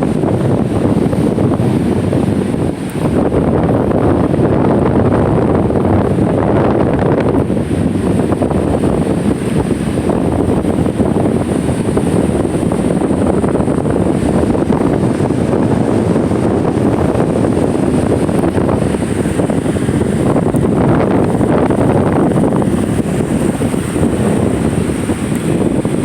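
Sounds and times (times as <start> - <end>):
surf washing up beach: 0.0 - 26.0
wind buffeting microphone: 0.0 - 26.0.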